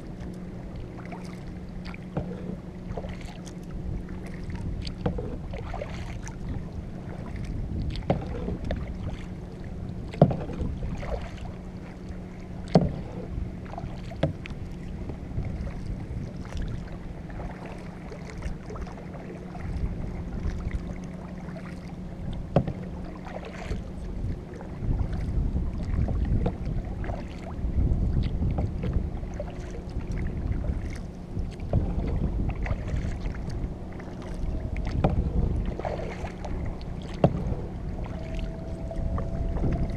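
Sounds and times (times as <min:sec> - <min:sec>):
paddle splashing in water: 0:00.0 - 0:39.9
steady low hum: 0:00.0 - 0:39.9
wind rumble on microphone: 0:00.0 - 0:39.9.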